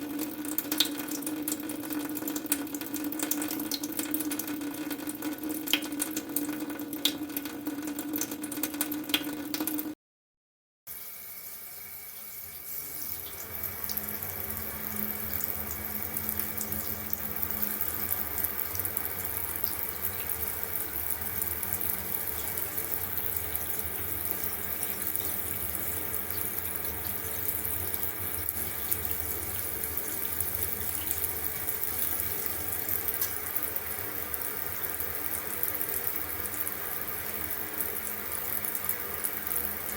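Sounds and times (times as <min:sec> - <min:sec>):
water running from tap into sink: 0:00.0 - 0:10.0, 0:10.9 - 0:39.9.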